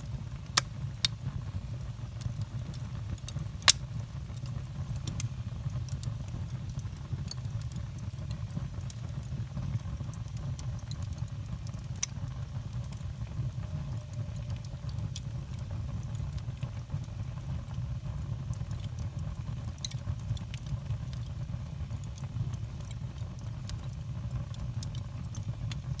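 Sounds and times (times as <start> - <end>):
fire crackling and popping: 0.0 - 26.0
low fire rumble: 0.0 - 26.0.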